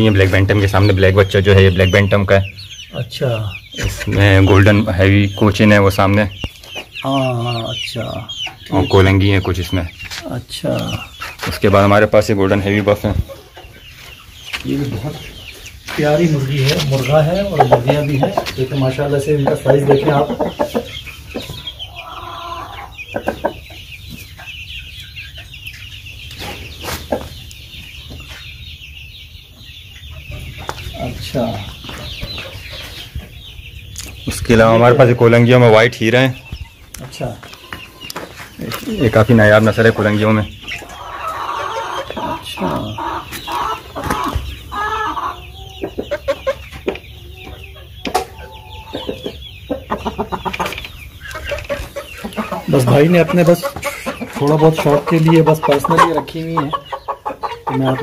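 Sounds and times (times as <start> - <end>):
chickens clucking: 0.0 - 58.0
chicks cheeping: 0.0 - 58.0.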